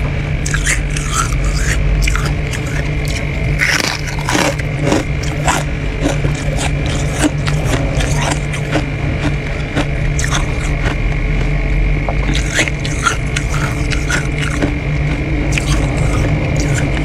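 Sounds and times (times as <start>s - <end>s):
steady low hum: 0.0s - 17.0s
freezer frost crunching: 0.4s - 17.0s.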